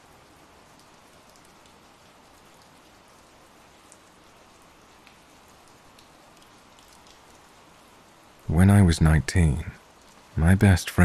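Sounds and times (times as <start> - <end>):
faint rain hiss: 0.0 - 11.0
raindrop ticks: 0.0 - 11.0.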